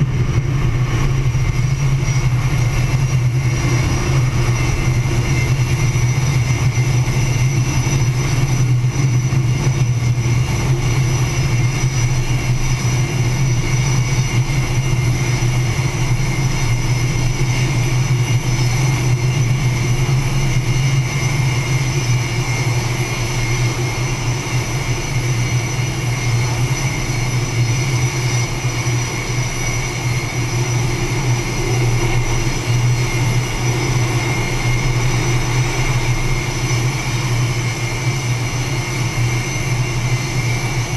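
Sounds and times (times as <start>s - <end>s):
jet engines with high whine: 0.0s - 40.9s.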